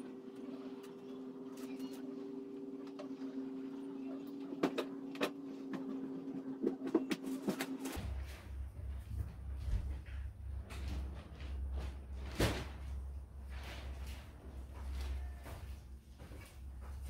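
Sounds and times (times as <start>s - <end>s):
steady two-tone machine hum: 0.0s - 17.0s.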